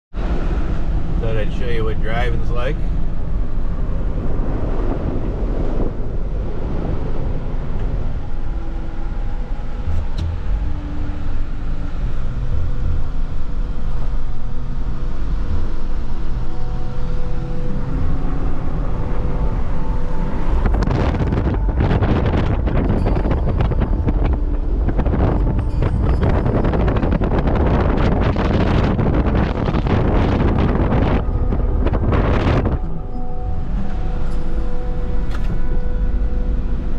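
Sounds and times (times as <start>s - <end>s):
car engine rumble: 0.1s - 36.9s
wind buffeting microphone: 0.2s - 36.9s.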